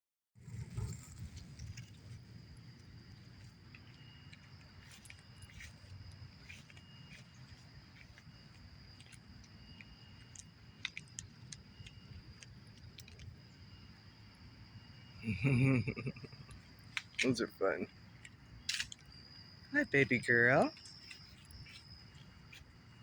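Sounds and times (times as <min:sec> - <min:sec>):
high insect trill: 0:00.4 - 0:23.0
lower insect trill: 0:00.4 - 0:23.0.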